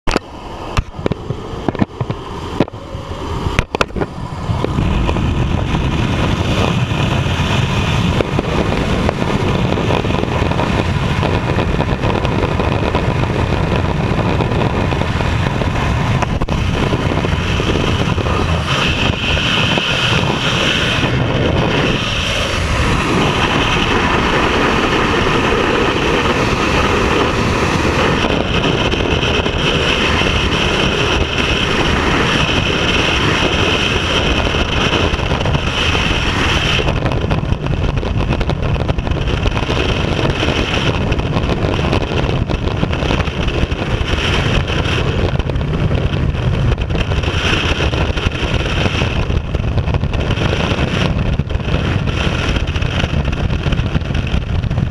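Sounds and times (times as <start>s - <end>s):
plane engine and propeller: 0.0s - 54.9s
wind blasting microphone: 0.0s - 54.9s.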